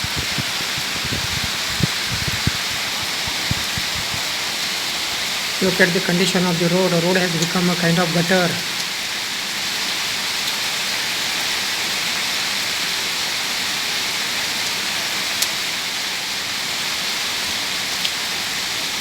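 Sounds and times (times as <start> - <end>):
heavy rain on roofs and road: 0.0 - 19.0.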